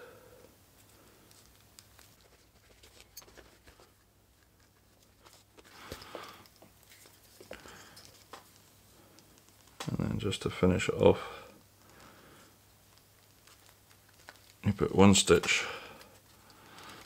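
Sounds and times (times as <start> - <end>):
handling rustles: 0.7 - 17.0.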